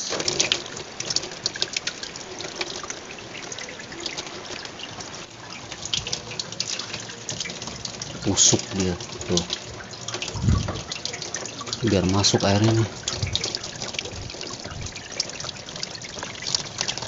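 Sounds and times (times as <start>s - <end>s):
water from hose running over ice: 0.0s - 17.0s
water splashing and dripping: 0.0s - 17.0s.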